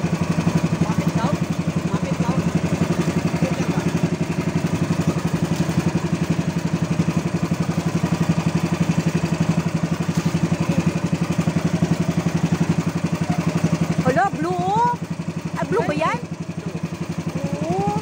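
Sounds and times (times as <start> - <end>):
boat engine pulsing: 0.0 - 18.0.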